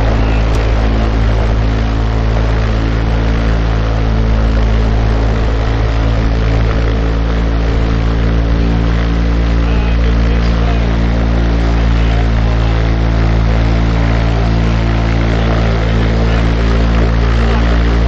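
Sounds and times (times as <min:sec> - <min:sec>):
aircraft piston engine and propeller: 0:00.0 - 0:18.0.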